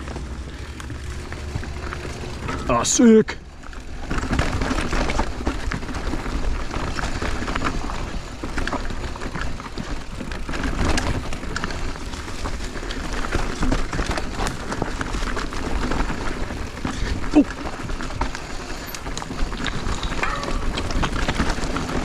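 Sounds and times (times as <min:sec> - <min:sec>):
bike rattling and knocking: 0:00.0 - 0:22.0
tyres crunching over rocks: 0:00.0 - 0:22.0.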